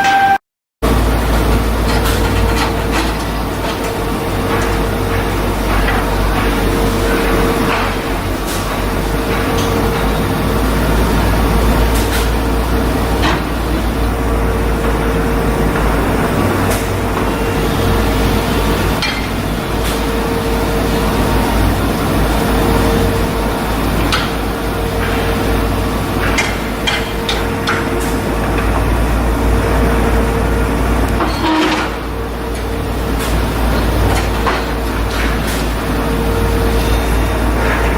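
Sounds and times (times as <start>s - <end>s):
machine drone with hum: 0.0s - 37.9s.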